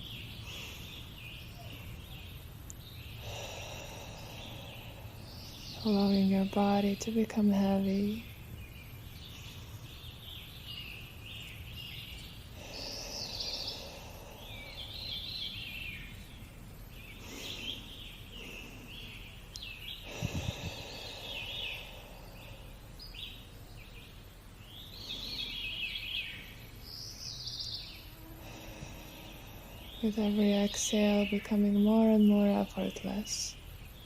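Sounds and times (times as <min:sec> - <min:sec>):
songbirds chirping trills: 0:00.0 - 0:34.0.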